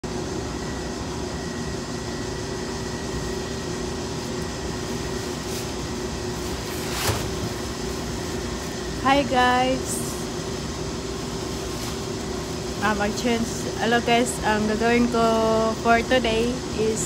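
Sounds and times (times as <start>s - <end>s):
ventilation machinery hum: 0.0s - 17.0s.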